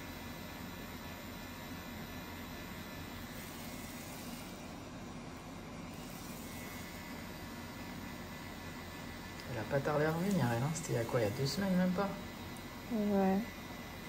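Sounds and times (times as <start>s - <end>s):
tattoo machine humming: 0.0s - 14.0s.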